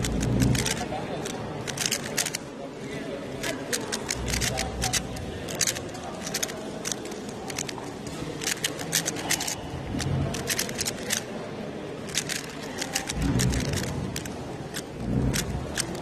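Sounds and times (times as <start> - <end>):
puzzle cube layers clicking: 0.0 - 2.4, 3.4 - 11.3, 12.1 - 16.0.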